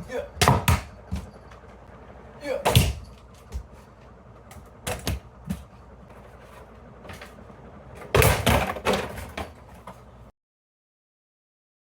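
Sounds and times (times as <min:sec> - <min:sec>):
fan blades hitting objects: 0:00.0 - 0:10.3.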